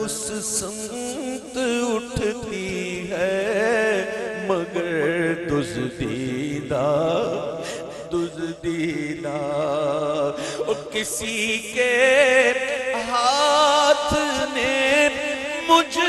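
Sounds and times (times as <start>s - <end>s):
man singing with vibrato: 0.0s - 16.0s.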